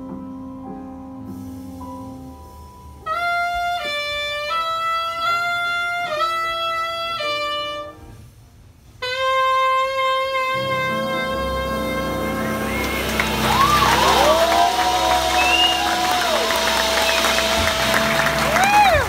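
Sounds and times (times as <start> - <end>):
jazz saxophone: 0.0 - 19.0.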